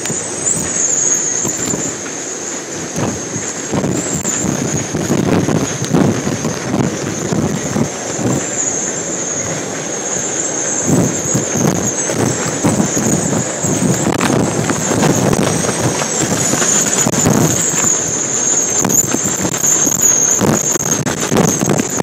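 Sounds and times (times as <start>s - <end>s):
high wind whistle: 0.0s - 22.0s
strong wind buffeting microphone: 0.0s - 22.0s.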